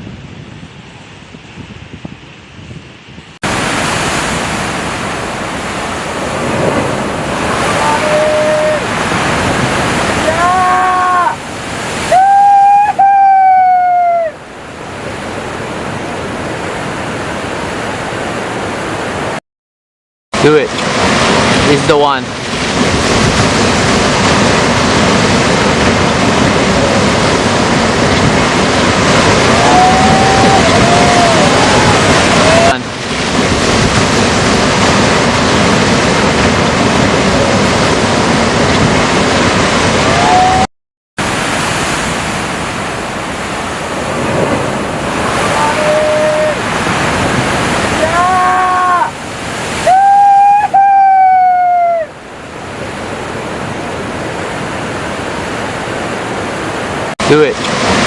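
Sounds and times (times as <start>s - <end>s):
rushing water: 0.0s - 19.4s, 20.4s - 58.0s.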